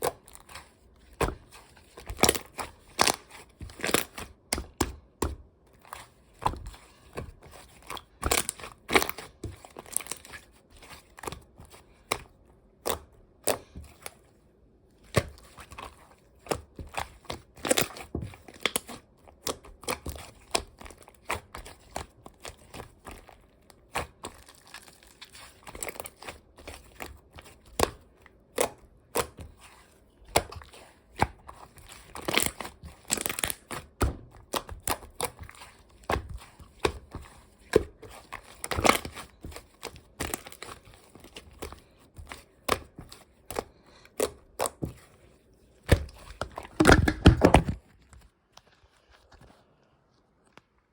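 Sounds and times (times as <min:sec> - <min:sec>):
slime being squished by hand: 0:00.0 - 0:14.3, 0:15.0 - 0:47.9.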